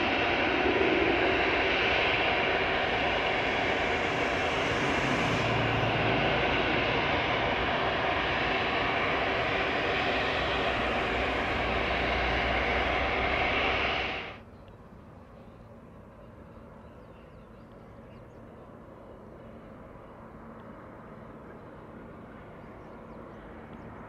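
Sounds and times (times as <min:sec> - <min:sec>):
turboprop aircraft engine whine: 0:00.0 - 0:24.0.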